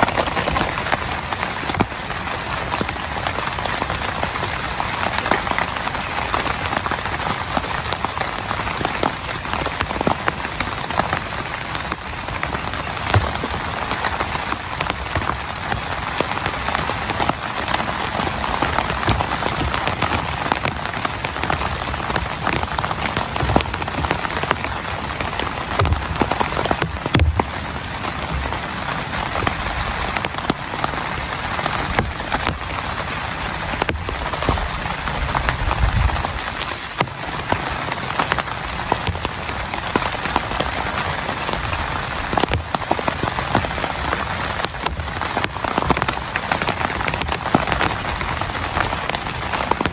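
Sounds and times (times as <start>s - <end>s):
heavy rain on a tent: 0.0s - 49.9s
raindrop impacts: 0.0s - 49.9s.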